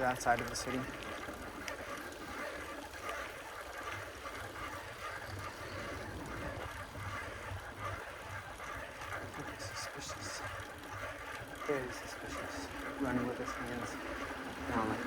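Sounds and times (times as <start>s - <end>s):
road and wind noise from bicycle: 0.0s - 15.0s.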